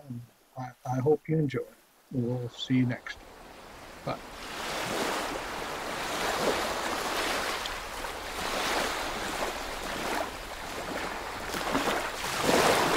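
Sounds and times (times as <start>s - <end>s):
ocean waves washing onto beach: 2.1s - 12.9s.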